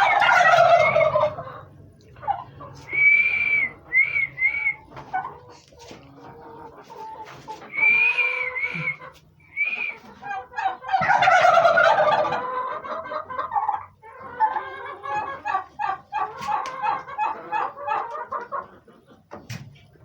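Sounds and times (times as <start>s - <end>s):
turkey gobble: 0.0s - 20.0s
turkeys calling: 0.0s - 20.0s.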